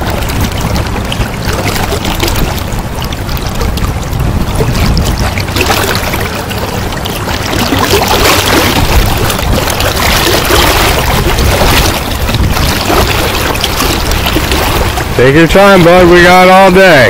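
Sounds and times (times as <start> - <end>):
river water rushing and splashing: 0.0 - 17.0
wind buffeting microphone: 0.0 - 17.0.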